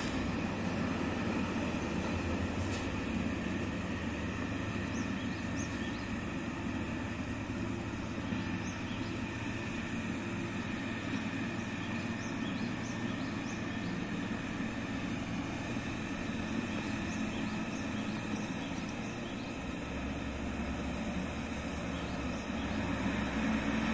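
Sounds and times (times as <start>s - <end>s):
heavy diesel engines droning: 0.0s - 23.9s.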